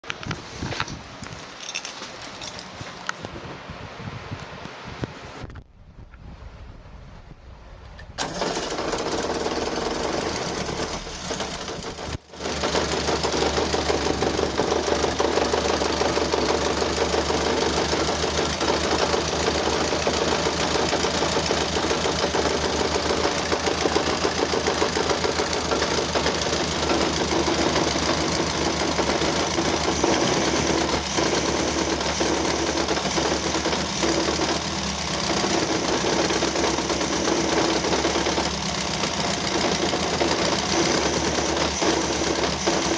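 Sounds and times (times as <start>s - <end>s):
engine knocking clatter: 8.2s - 42.9s.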